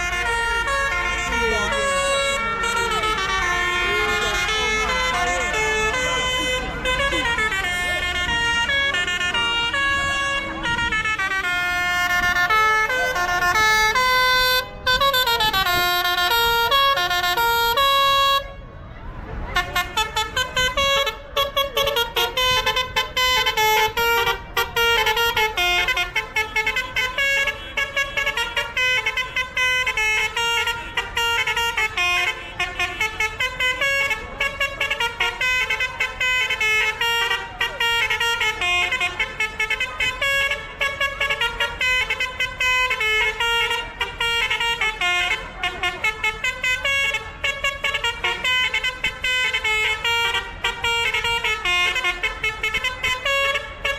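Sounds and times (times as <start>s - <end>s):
low engine rumble: 0.0s - 53.9s
musical vehicle horn tune: 0.0s - 53.9s.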